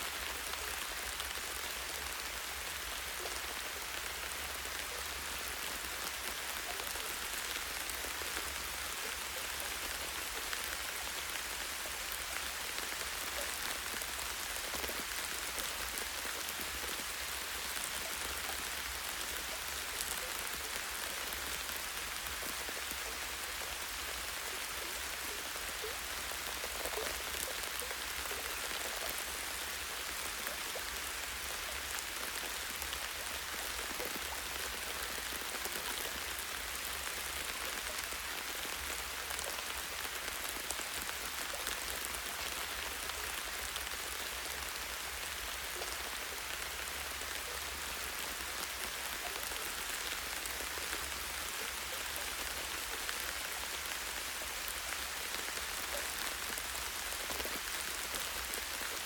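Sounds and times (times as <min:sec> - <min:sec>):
light rain on leaves: 0:00.0 - 0:59.0.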